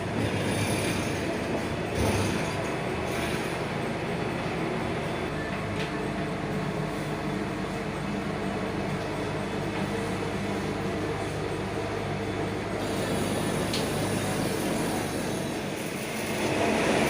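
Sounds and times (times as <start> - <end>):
machinery humming: 0.0 - 17.0
rough mechanical noise: 0.0 - 17.0.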